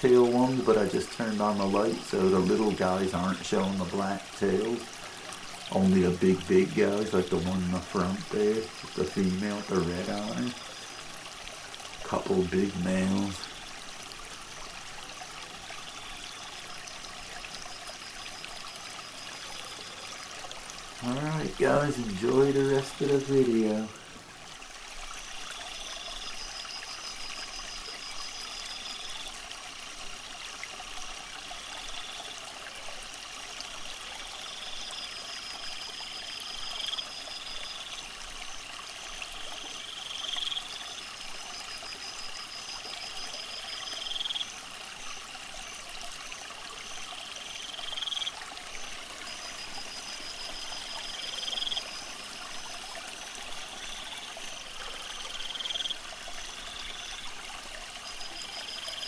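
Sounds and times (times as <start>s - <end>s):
aquarium filter water trickling: 0.0s - 59.0s.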